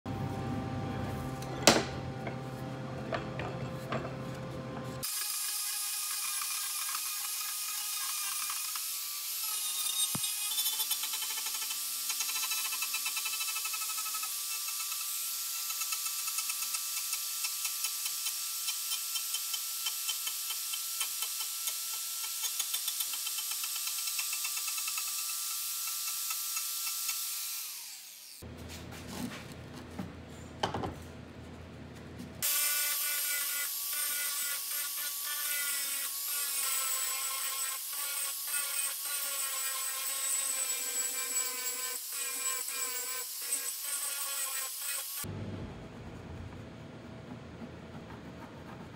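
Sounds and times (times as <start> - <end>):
angle grinder carving wood: 5.0 - 28.4, 32.4 - 48.9.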